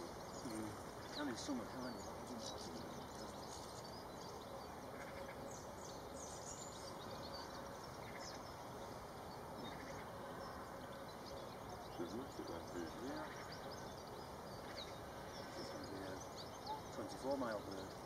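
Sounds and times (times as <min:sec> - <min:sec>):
outdoor background noise: 0:00.0 - 0:18.0
small birds chirping: 0:00.0 - 0:18.0.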